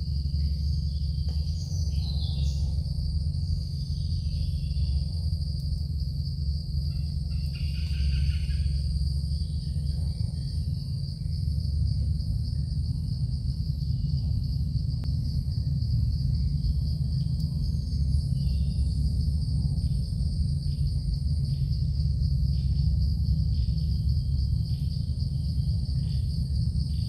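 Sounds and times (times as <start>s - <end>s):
insects droning: 0.0s - 27.0s
low rumble: 0.0s - 27.0s.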